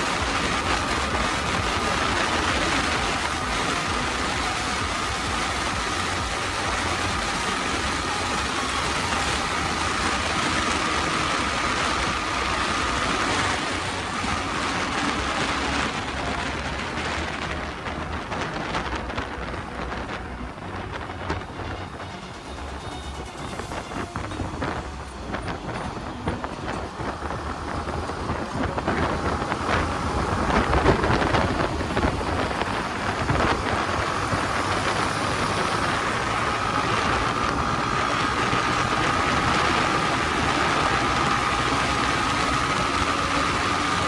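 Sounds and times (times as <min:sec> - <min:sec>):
high whine: 0:00.0 - 0:44.0
wind rushing over microphone: 0:00.0 - 0:44.0.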